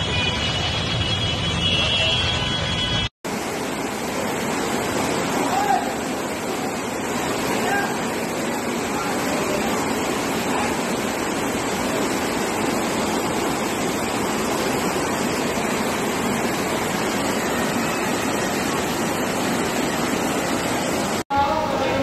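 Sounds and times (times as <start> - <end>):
floodwater rushing: 3.3 - 22.0.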